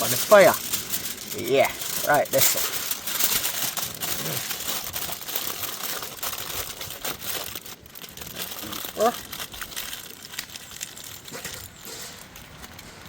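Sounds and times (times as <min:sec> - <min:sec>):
wrapping crinkling: 0:00.0 - 0:13.0.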